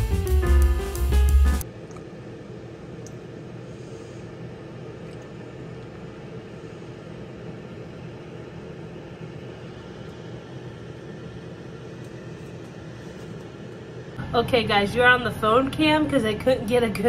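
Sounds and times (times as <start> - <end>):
air fryer fan humming: 0.0 - 17.0.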